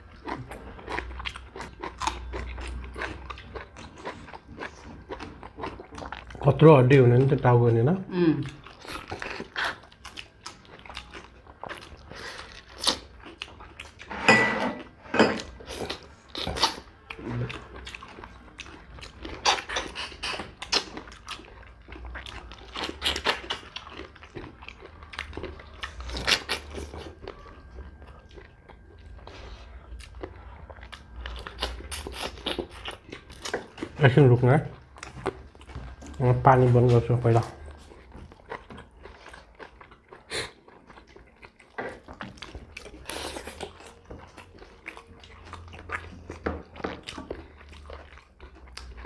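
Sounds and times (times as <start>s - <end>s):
people chewing food: 0.0s - 49.0s.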